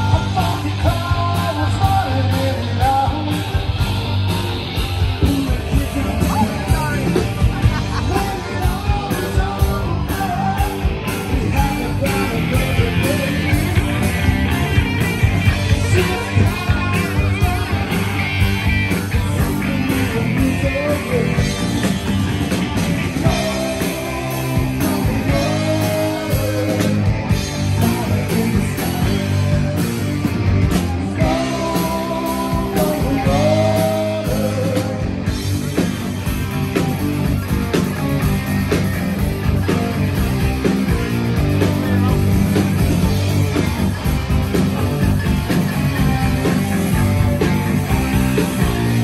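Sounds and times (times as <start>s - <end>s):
rock band playing: 0.0s - 49.0s.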